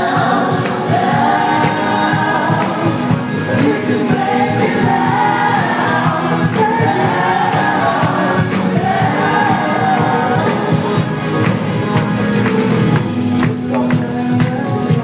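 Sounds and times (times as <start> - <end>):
live band playing: 0.0 - 15.0
singers holding long notes: 0.0 - 15.0.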